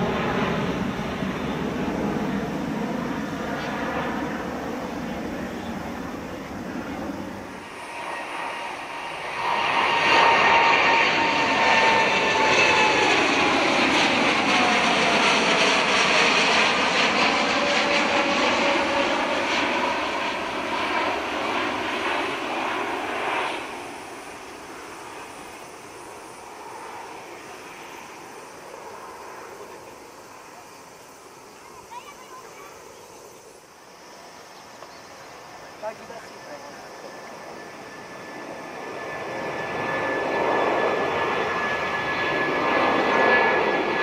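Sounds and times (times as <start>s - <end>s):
faint jet rumble: 0.0s - 44.0s
jet engines passing overhead: 0.0s - 44.0s.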